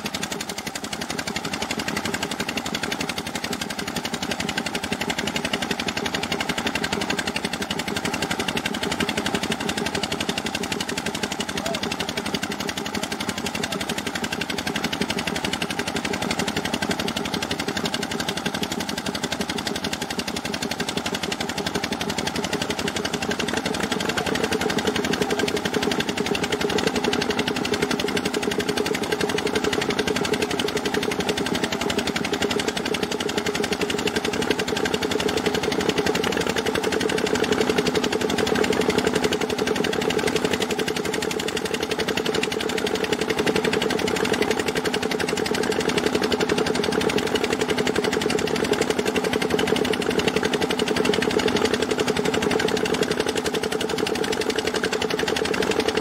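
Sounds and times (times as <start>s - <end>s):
engine running with knocking beat: 0.0s - 56.0s.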